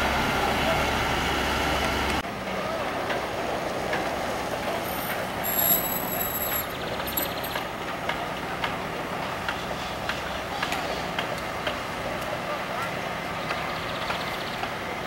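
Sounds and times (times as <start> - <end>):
diesel bus engine: 0.0 - 15.0
heavy construction machinery: 0.0 - 15.0
traffic noise: 0.0 - 15.0.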